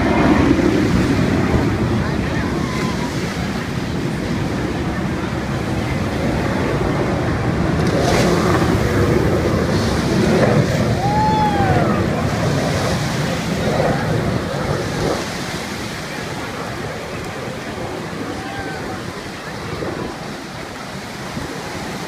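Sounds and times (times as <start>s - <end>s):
breaking surf: 0.0s - 22.0s
wind on microphone: 0.0s - 22.0s.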